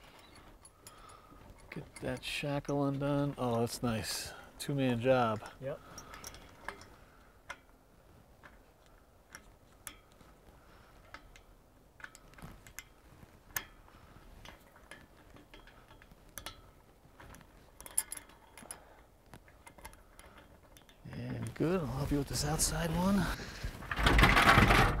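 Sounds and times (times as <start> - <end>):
faint metal clicks and clinks: 0.0 - 4.4, 5.2 - 7.8, 8.4 - 21.6.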